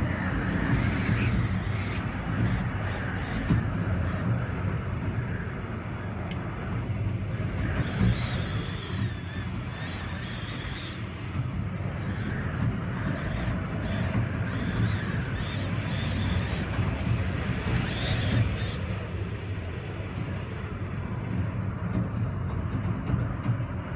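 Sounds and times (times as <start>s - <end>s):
faint high wind whistle: 0.0s - 23.9s
strong wind buffeting microphone: 0.0s - 23.9s.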